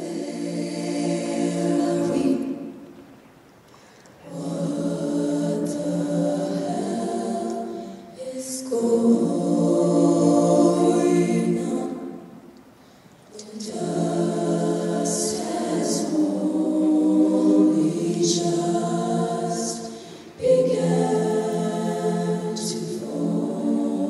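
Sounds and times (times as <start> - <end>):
female a cappella group singing: 0.0 - 3.0, 4.2 - 12.6, 13.3 - 24.0.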